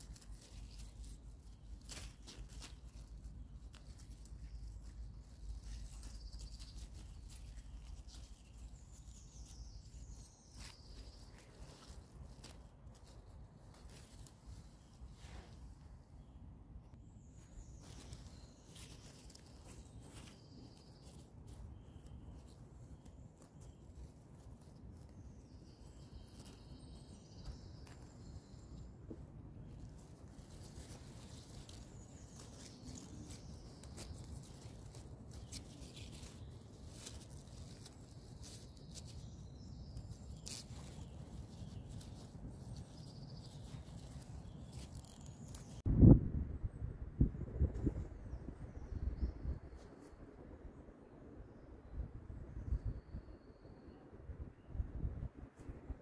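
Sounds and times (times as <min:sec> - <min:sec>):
leaves rustling: 0:00.0 - 0:16.4, 0:17.0 - 0:45.8.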